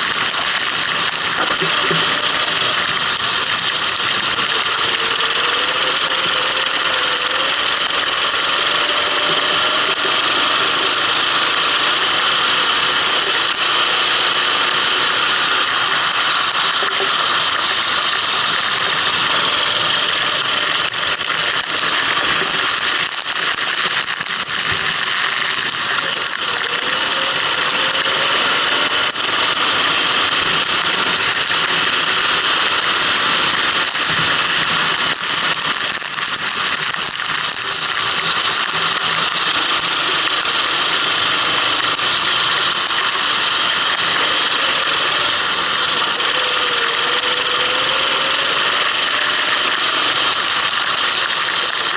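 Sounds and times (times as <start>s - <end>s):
kart engine running: 0.0s - 51.9s.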